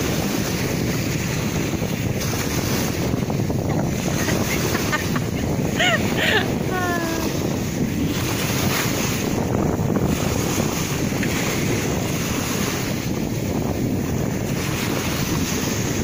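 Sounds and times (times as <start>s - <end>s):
small waves washing at shore: 0.0s - 16.0s
wind buffeting microphone: 0.0s - 16.0s.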